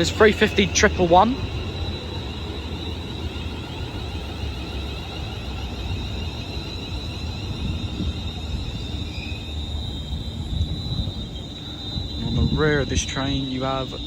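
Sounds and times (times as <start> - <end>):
electric train high-pitched whine: 0.0 - 14.0.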